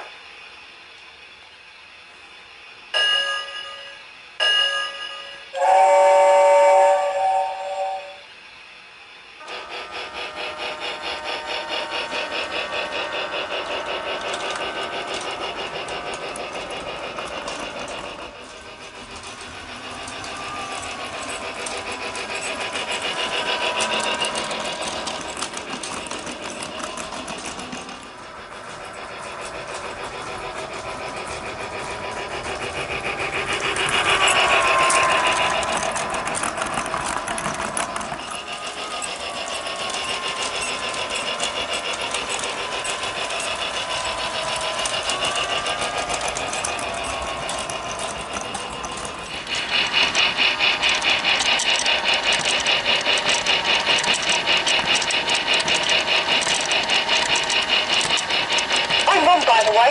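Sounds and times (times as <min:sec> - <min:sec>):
toy train motor whine: 0:00.0 - 0:59.9
wheels clicking: 0:10.0 - 0:59.9.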